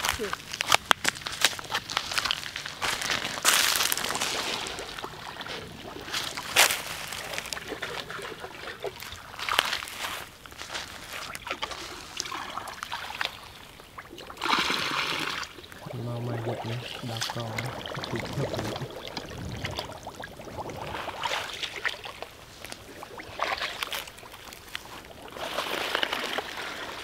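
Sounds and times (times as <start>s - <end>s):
pond water splashing and sloshing: 0.0s - 27.0s.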